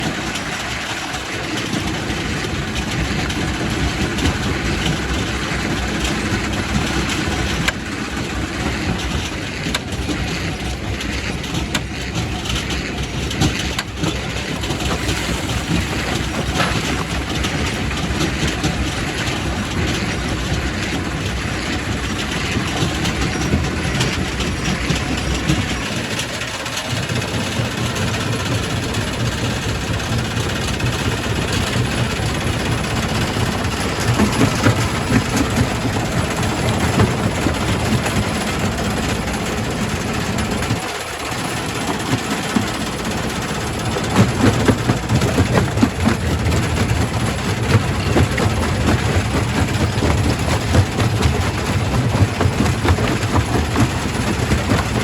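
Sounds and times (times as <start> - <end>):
rock crusher rumbling: 0.0 - 55.0.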